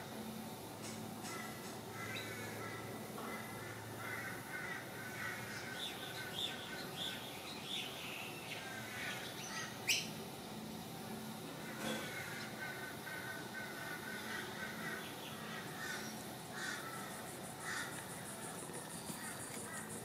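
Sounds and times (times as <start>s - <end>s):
birds calling: 0.8s - 10.2s, 11.6s - 20.0s.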